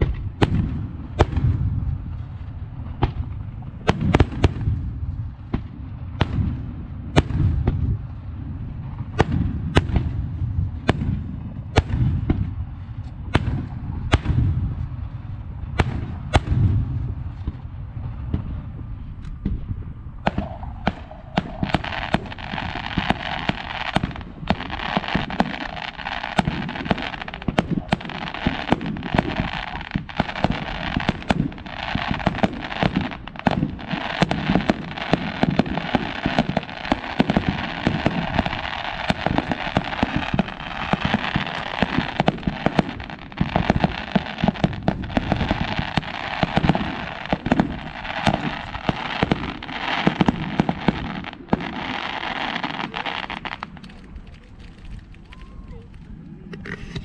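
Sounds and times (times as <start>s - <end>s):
fireworks deep boom: 0.0s - 56.6s
fireworks bangs and crackling: 0.0s - 57.0s.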